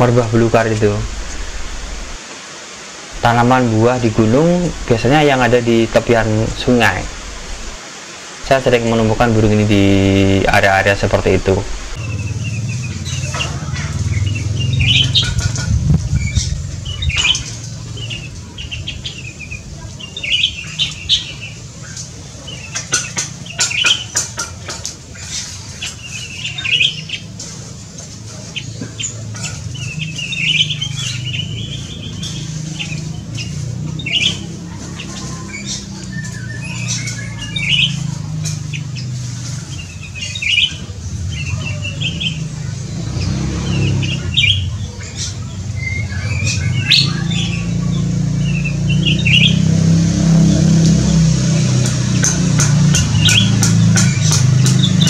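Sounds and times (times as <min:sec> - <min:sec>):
falling water: 0:00.0 - 0:55.0.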